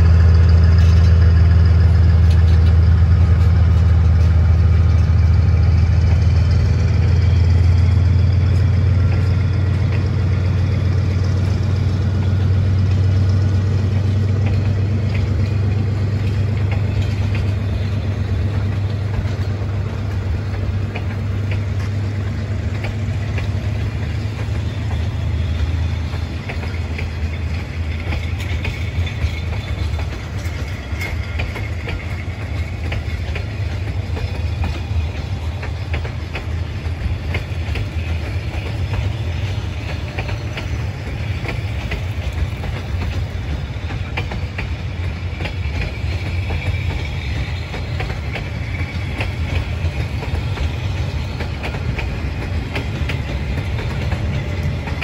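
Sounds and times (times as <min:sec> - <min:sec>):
deep train rumble: 0:00.0 - 0:55.0
train wheels clickety-clack: 0:00.0 - 0:55.0.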